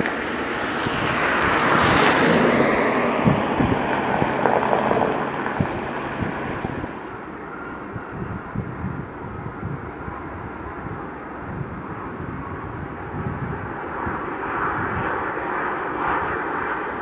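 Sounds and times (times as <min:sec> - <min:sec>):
jet engine noise: 0:00.0 - 0:17.0
wind buffeting microphone: 0:00.0 - 0:17.0.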